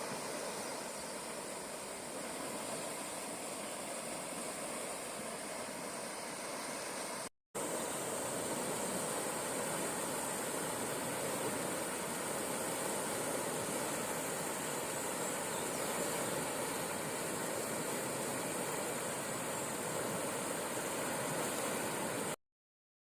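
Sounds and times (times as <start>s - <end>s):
roaring tidal current: 0.0s - 22.4s.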